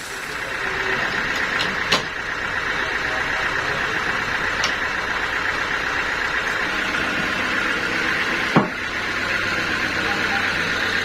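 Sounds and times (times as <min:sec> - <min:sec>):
sawmill machinery humming: 0:00.0 - 0:11.0.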